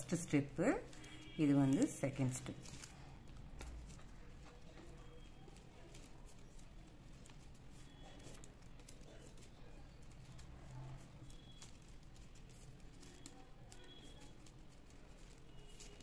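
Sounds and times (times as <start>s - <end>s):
plastic wire clicks and rustling: 0.0s - 16.0s.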